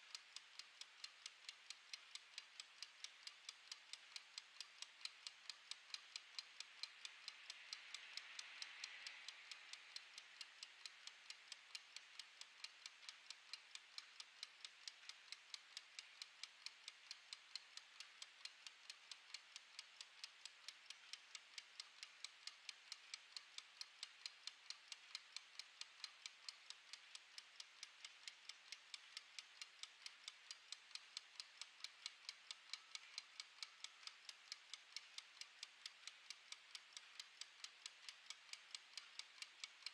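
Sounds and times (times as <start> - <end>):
faint hiss: 0.0 - 39.9
kitchen timer ticking: 0.0 - 39.9.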